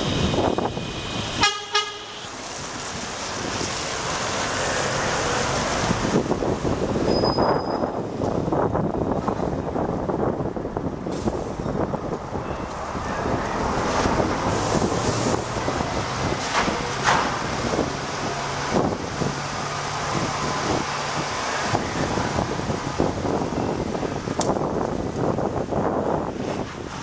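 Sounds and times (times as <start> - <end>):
wind buffeting microphone: 0.0 - 1.4, 4.9 - 27.0
tyre noise on wet ground: 1.8 - 7.4, 11.0 - 27.0.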